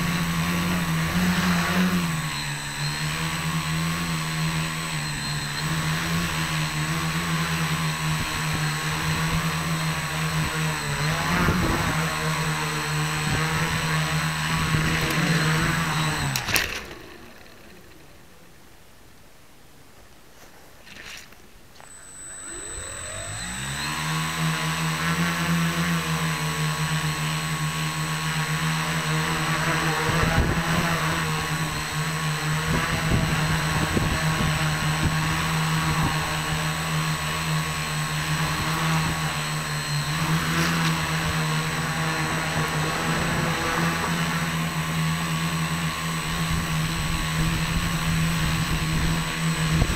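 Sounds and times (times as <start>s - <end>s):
drone motors whining: 0.0s - 18.5s, 21.8s - 49.9s.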